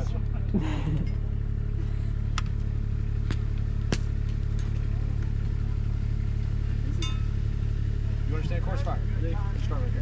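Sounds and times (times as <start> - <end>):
engine idling hum: 0.0 - 10.0.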